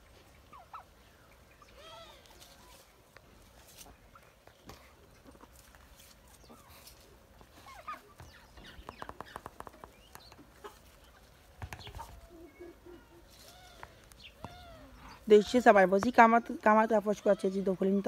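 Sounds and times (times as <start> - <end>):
poultry clucking and calling: 0.0 - 18.0.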